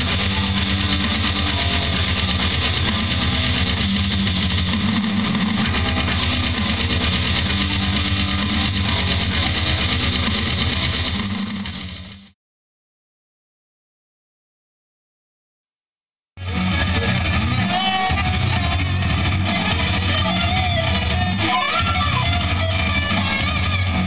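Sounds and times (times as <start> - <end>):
distorted electric guitar riff: 0.0 - 12.4, 16.4 - 24.0.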